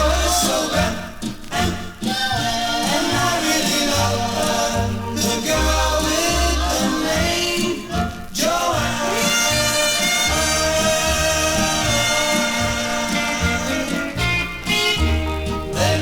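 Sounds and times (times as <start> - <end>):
pop song with singer and band: 0.0 - 14.3, 15.6 - 16.0.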